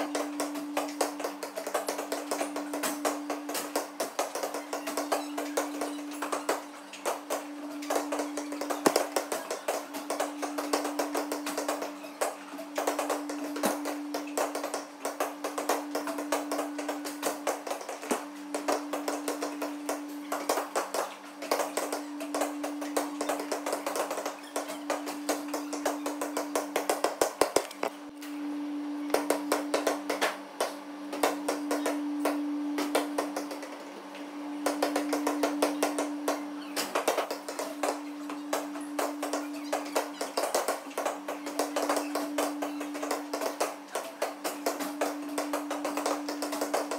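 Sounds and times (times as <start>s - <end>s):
basketballs bouncing on hardwood: 0.0s - 28.0s, 29.1s - 33.7s, 34.6s - 46.9s
steady low hum: 0.0s - 46.9s.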